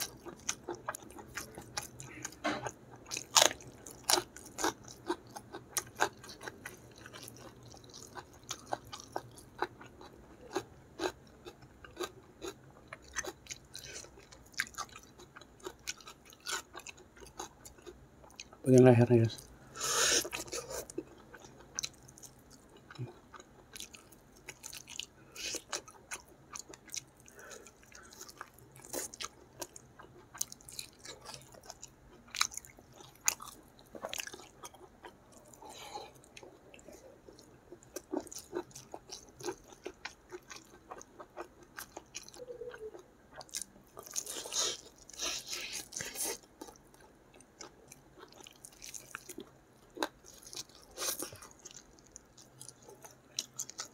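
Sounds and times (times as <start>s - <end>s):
person chewing and lip-smacking: 0.0s - 18.6s, 20.1s - 53.9s.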